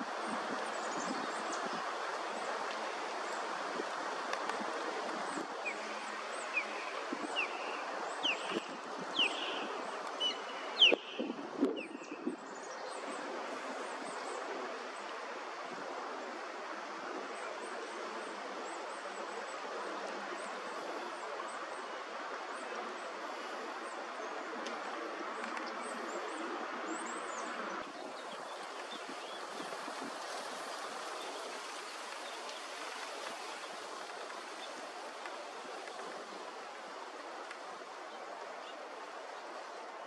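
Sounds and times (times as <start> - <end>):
rushing outdoor noise: 0.0 - 40.0.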